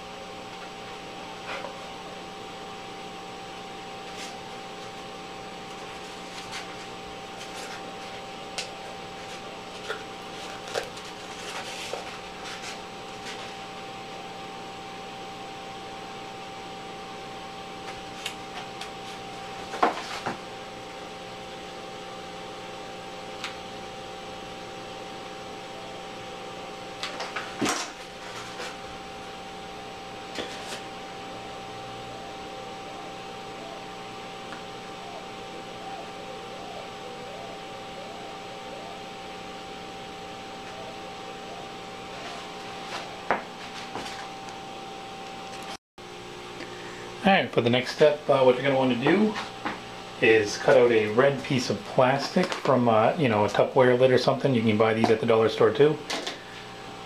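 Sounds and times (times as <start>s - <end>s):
steady room hum: 0.0s - 57.0s.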